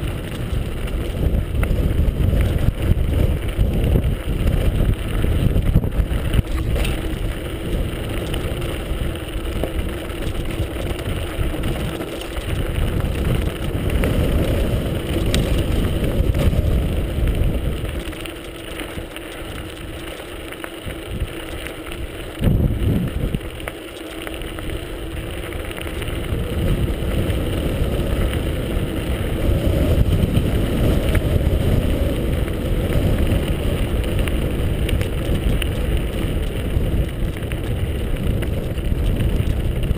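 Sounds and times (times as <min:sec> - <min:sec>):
bike tyres rolling over gravel: 0:00.0 - 0:39.9
wind rumbling on microphone: 0:00.0 - 0:39.9.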